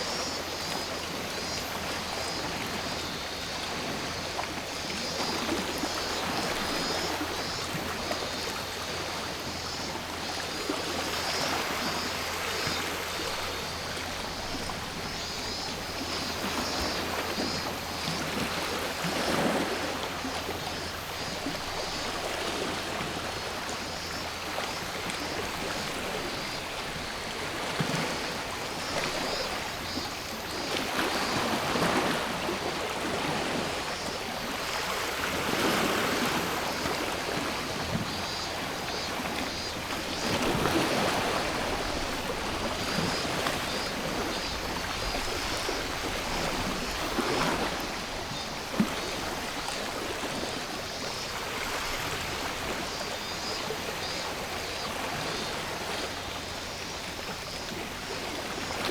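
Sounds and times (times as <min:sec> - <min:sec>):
small waves washing ashore: 0:00.0 - 0:58.9.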